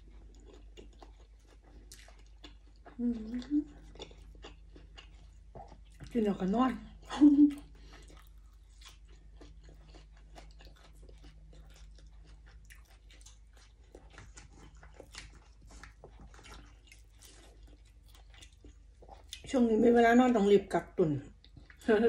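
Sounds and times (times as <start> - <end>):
person chewing leafy herbs: 0.0 - 19.6, 21.2 - 22.0.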